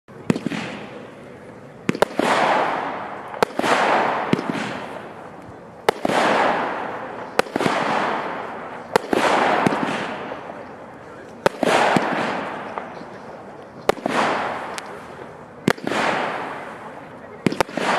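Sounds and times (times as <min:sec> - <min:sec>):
firework crackle: 0:00.1 - 0:17.9
firework shots: 0:00.1 - 0:17.9.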